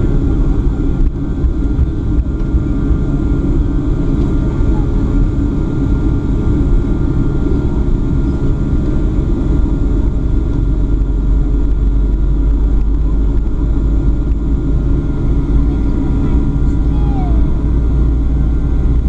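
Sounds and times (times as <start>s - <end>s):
jet engines rumbling at taxi power: 0.0s - 19.0s.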